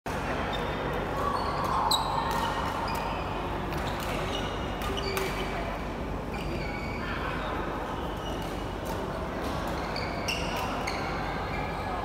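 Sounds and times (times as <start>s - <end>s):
steady background hum: 0.1s - 12.0s
shoes squeaking on court floor: 0.5s - 7.0s, 8.0s - 12.0s.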